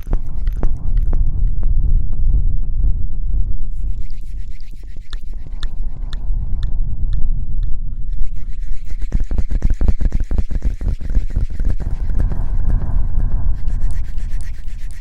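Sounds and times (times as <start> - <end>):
scratching on microphone: 0.0 - 2.7, 3.3 - 15.0
low rumble: 0.0 - 15.0.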